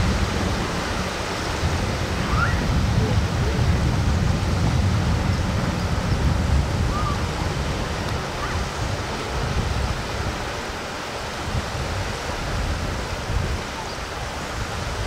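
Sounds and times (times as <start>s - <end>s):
sea washing: 0.0s - 15.0s
wind rumbling on microphone: 0.0s - 15.0s.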